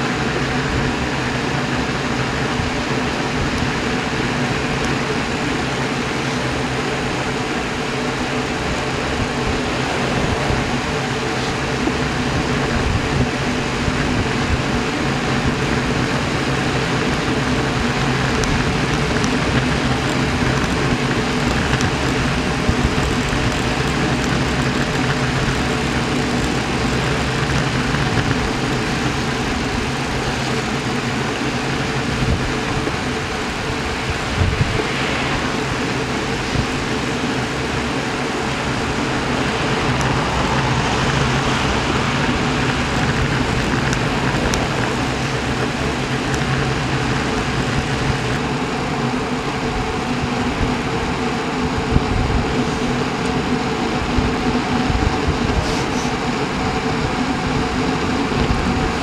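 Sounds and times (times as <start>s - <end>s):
tyres on asphalt: 0.0s - 59.0s
wind rush: 0.0s - 59.0s.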